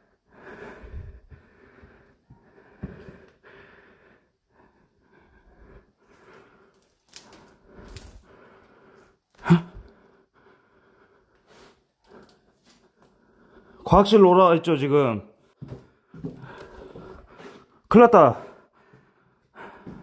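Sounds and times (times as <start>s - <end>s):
man breathing heavily: 0.0s - 13.9s, 15.5s - 20.0s.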